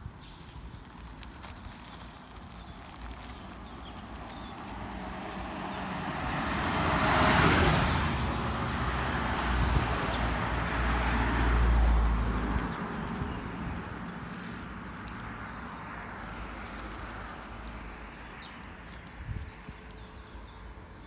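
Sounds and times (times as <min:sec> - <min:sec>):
road vehicle passing: 0:00.3 - 0:21.0.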